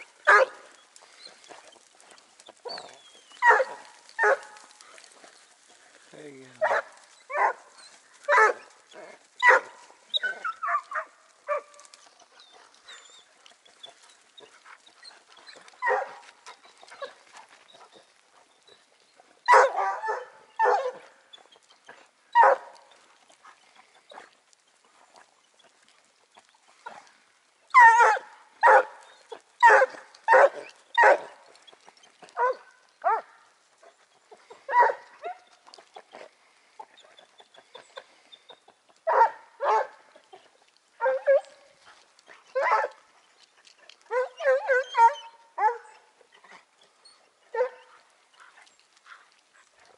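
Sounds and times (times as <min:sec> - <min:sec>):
hounds baying: 0:00.0 - 0:49.9.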